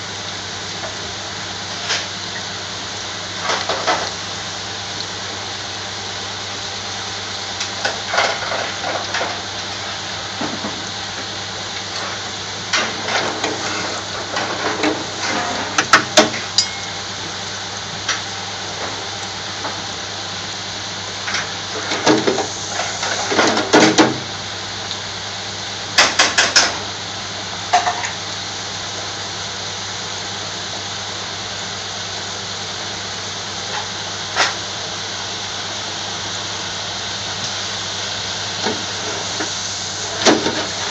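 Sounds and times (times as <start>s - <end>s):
oil bubbling in deep fryer: 0.0s - 40.9s.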